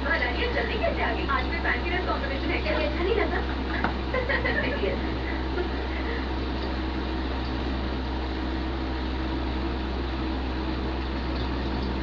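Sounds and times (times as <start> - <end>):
electrical equipment hum and hiss: 0.0 - 12.0.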